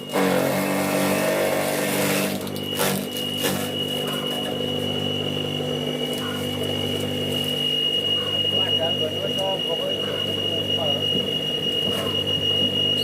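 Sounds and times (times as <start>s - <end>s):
electric motor hum: 0.0s - 13.0s
high whine: 0.0s - 13.0s.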